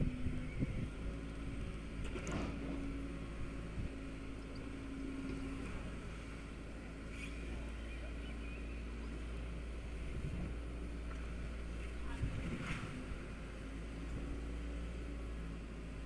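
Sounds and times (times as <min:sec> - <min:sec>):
machine engine low hum: 0:00.0 - 0:16.0.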